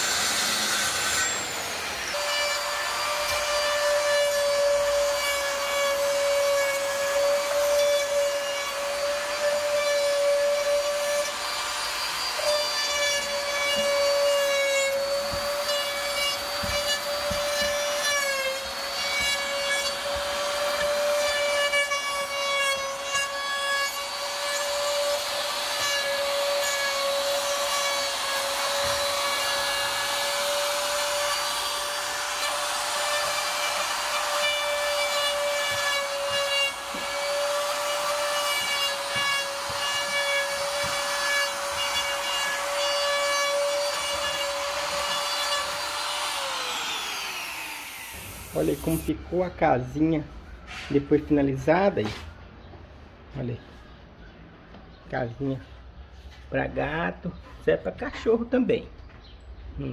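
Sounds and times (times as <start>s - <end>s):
router whining cutting wood: 0.0s - 49.2s.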